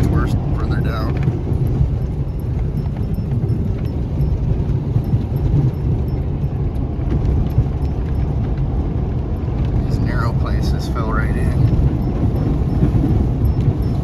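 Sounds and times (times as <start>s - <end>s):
pickup truck engine rumble: 0.0s - 14.0s.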